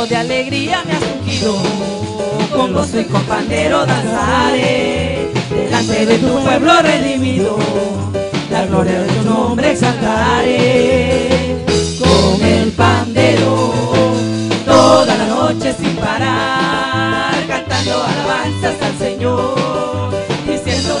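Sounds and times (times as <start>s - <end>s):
bass line: 0.0s - 21.0s
steady drum beat: 0.0s - 21.0s
voices singing: 0.0s - 21.0s.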